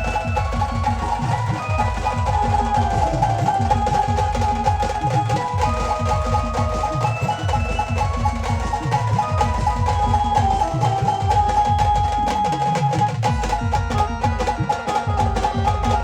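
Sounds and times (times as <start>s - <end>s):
band playing held melody: 0.0s - 16.0s
drum and percussion strokes: 0.0s - 16.0s.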